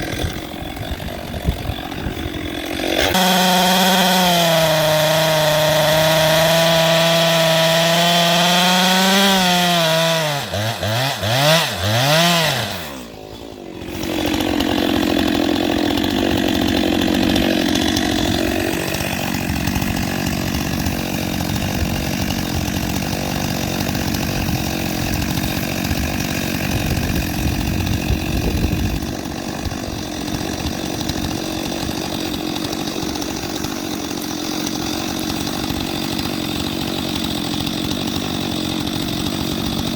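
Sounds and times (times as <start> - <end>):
two-stroke chainsaw revving: 0.0 - 39.9.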